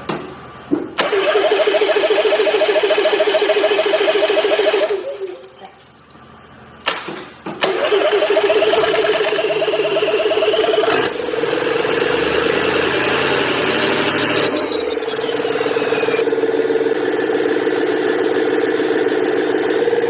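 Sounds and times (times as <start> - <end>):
diesel truck engine starting and idling: 0.0 - 5.3, 5.9 - 20.0.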